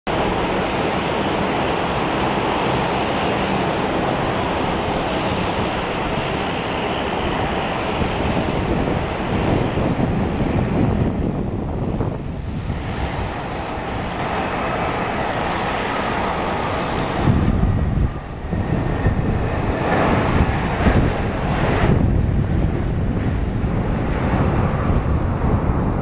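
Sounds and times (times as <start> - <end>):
jet engines rumble and whine: 0.1 - 26.0
wind buffeting microphone: 0.1 - 26.0.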